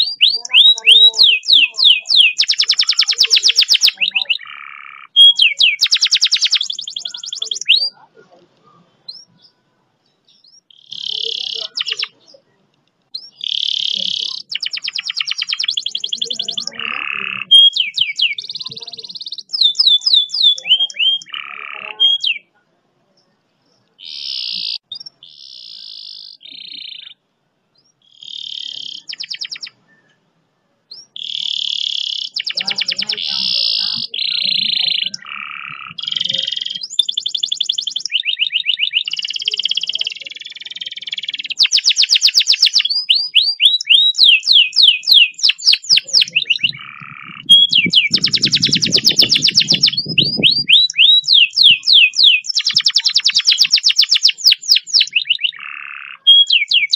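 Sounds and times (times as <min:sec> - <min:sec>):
canary singing trills: 0:00.0 - 0:30.3, 0:30.9 - 0:56.9.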